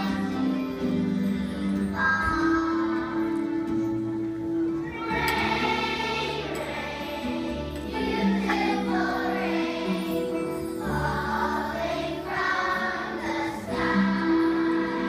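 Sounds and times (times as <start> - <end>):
choir singing held notes: 1.9 - 15.0.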